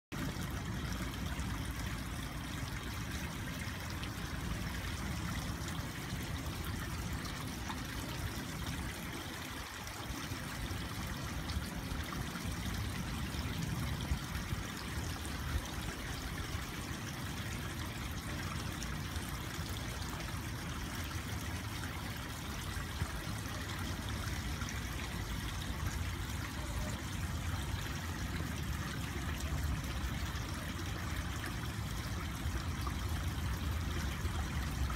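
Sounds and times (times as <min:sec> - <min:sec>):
water trickling into pond: 0:00.1 - 0:34.9.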